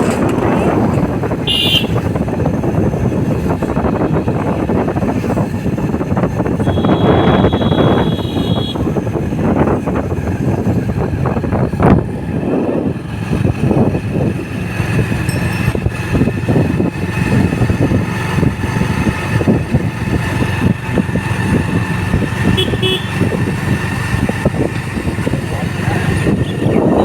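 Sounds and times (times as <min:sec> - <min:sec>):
road and vehicle rumble: 0:00.0 - 0:27.0
wind fluttering on microphone: 0:00.0 - 0:27.0.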